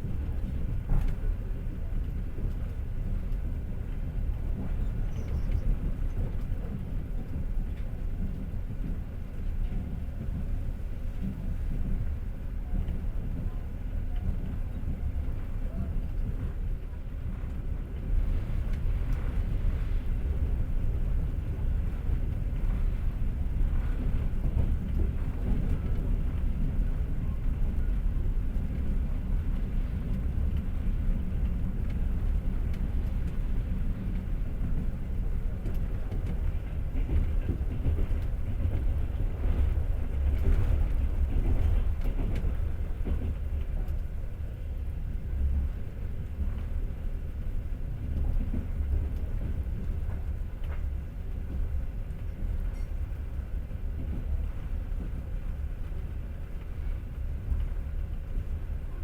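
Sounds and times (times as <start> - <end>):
faint rail clacks: 0.0 - 59.0
train wheels rumbling on rails: 0.0 - 59.0.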